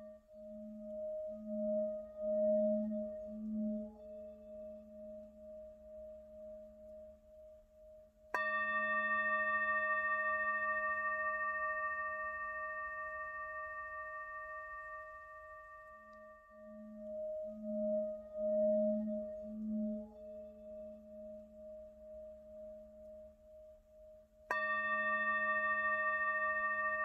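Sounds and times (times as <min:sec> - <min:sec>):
soft pulsing low drone: 0:00.0 - 0:27.0.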